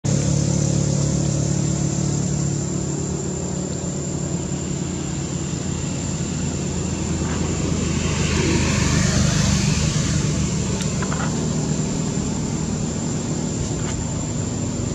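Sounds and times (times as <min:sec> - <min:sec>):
engine humming: 0:00.0 - 0:14.9.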